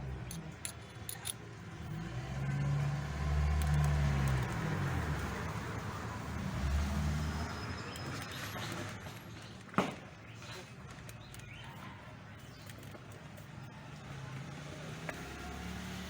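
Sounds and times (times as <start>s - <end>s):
vehicle engine hum: 0.0s - 9.7s, 10.3s - 16.0s.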